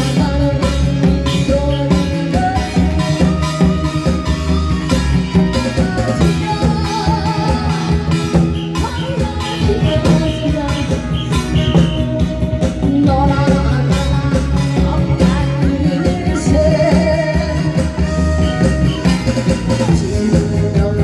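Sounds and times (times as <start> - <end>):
loud amplified music with drum beat: 0.0 - 21.0.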